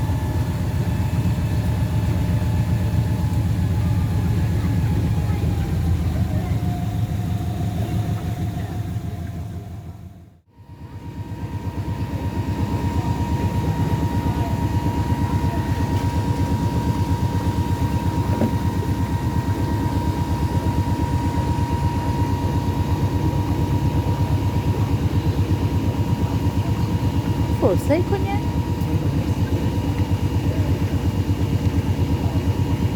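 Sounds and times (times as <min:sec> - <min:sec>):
boat engine running: 0:00.0 - 0:32.9
thin steady whine: 0:00.0 - 0:32.9.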